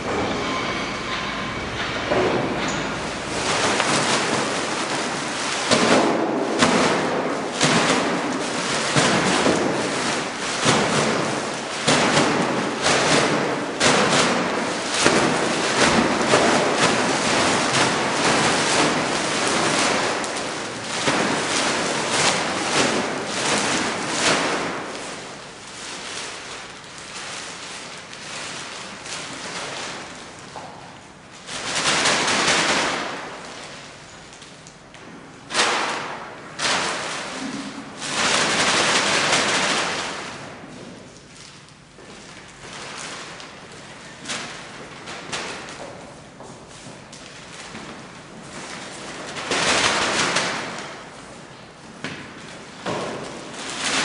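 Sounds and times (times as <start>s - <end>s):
bag slapping on paper: 2.6s - 54.0s
plastic bag crinkling: 2.6s - 54.0s.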